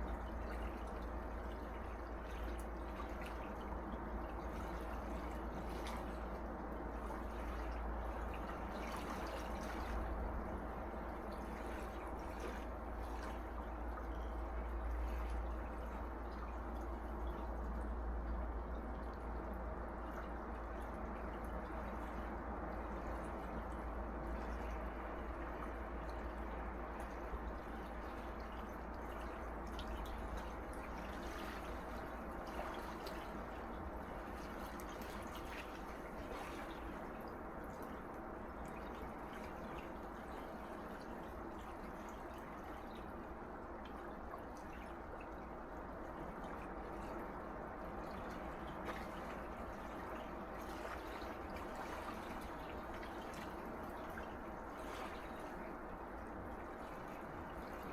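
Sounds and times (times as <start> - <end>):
sea waves washing on shore: 0.0 - 18.5, 19.5 - 57.9
low steady rumble: 0.0 - 57.9
water trickling and dripping: 0.0 - 57.9.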